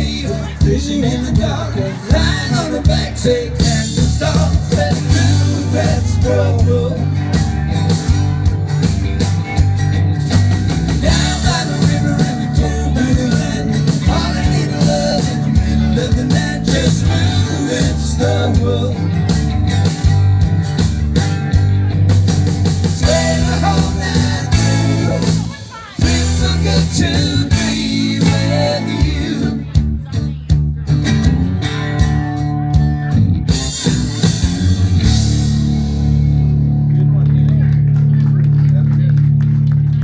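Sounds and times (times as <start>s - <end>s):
steady drum beat: 0.0s - 36.8s
guitar melody: 0.0s - 37.5s
live country-rock band: 0.0s - 40.0s.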